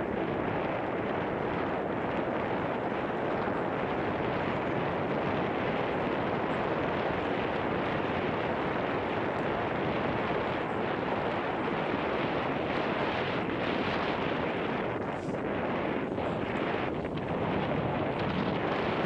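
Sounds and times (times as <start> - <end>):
wind noise on microphone: 0.0 - 19.0.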